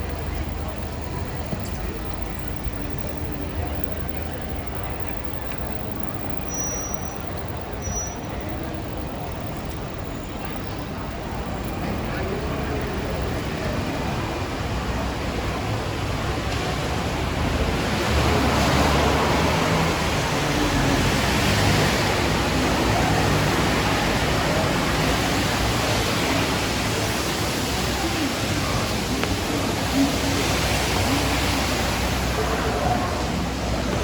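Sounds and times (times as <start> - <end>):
rain on street: 0.0 - 34.0.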